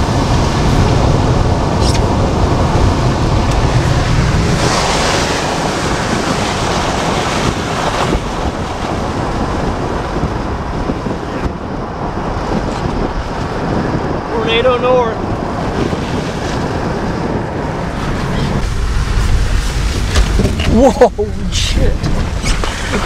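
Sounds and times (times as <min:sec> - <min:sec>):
tyre noise on wet pavement: 0:00.0 - 0:13.7, 0:17.6 - 0:23.0
wind buffeting microphone: 0:00.0 - 0:23.0.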